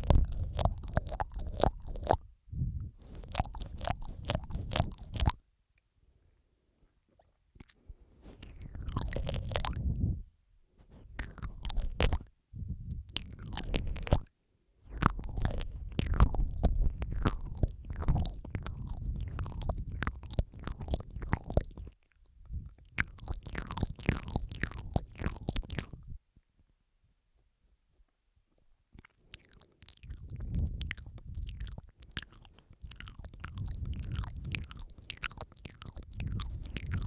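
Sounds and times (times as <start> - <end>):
wet mouth clicks and smacks: 0.0 - 5.4, 7.2 - 10.1, 10.9 - 12.3, 12.9 - 14.3, 14.9 - 26.2, 28.6 - 37.0.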